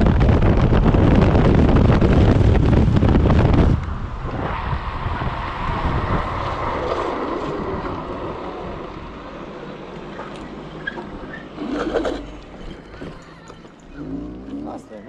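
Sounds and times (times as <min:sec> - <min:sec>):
wind rushing over microphone: 0:00.0 - 0:12.9
scooter tyres rolling on asphalt: 0:00.0 - 0:15.0.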